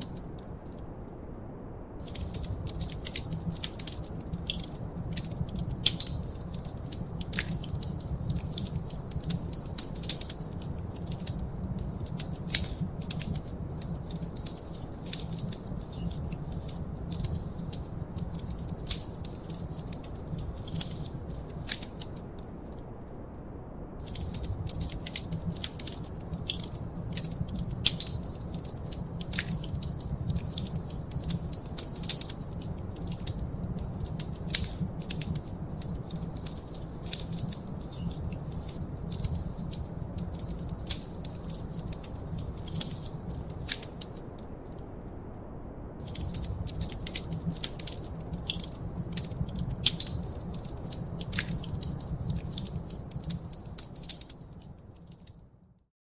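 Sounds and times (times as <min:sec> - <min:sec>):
fire crackling and popping: 0:00.0 - 0:01.2, 0:02.0 - 0:23.3, 0:24.0 - 0:45.3, 0:46.0 - 0:55.9
low rumble of burning: 0:00.0 - 0:55.9.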